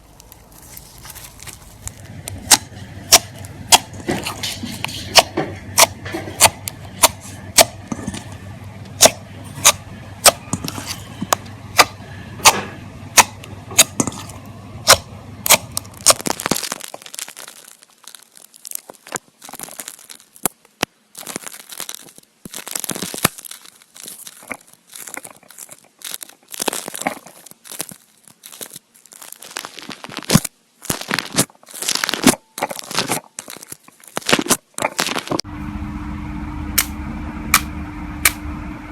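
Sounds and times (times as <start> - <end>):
slime squishing and stretching: 0.0 - 35.4.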